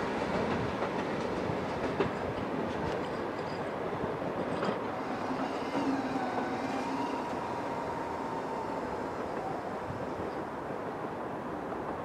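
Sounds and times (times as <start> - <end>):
train engine and wheel rumble: 0.0 - 12.0.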